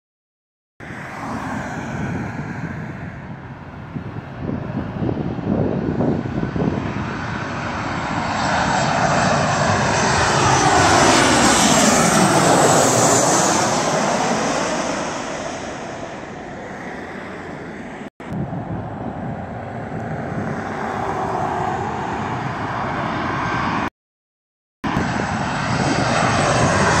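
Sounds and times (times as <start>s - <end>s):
jet airliner engine roar: 0.8s - 23.9s, 24.8s - 27.0s
sweeping whoosh overhead: 0.8s - 23.9s.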